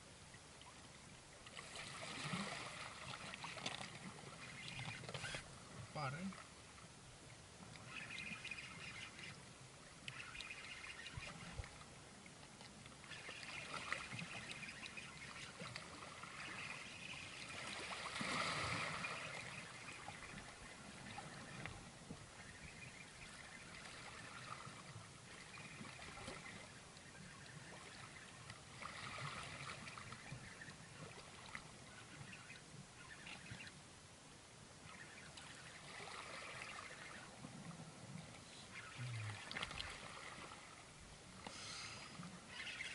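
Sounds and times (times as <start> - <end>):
low wash of water: 0.0 - 42.9.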